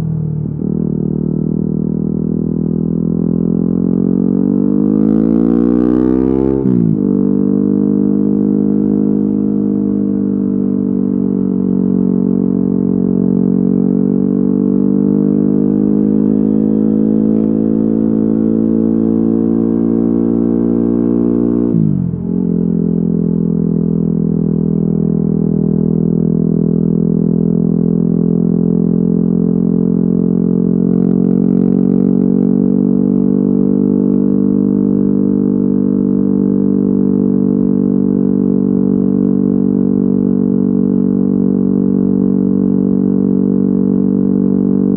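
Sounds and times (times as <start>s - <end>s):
motorcycle engine cruising: 0.0s - 44.9s.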